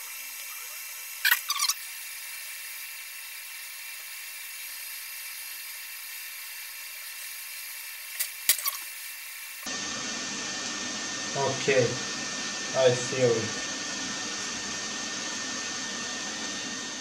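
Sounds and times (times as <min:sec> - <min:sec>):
hot-air gun hissing: 0:00.0 - 0:17.0.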